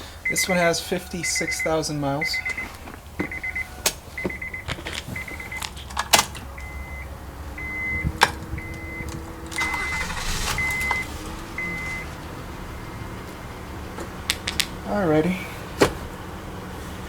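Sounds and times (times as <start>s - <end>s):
car warning chime beeping: 0.0s - 14.2s.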